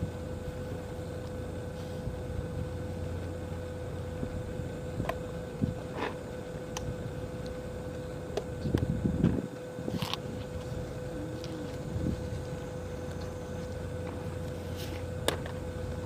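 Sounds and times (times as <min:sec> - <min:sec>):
boat engine running low: 0:00.0 - 0:16.0
constant hum: 0:00.0 - 0:16.0.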